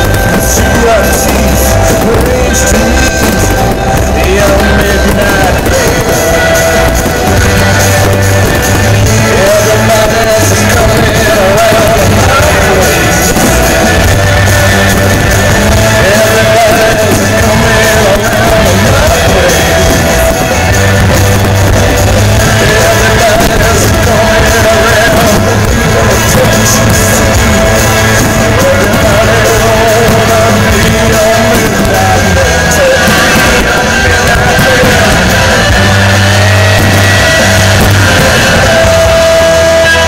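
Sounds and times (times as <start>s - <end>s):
loud music with vocals and bass: 0.0s - 40.0s.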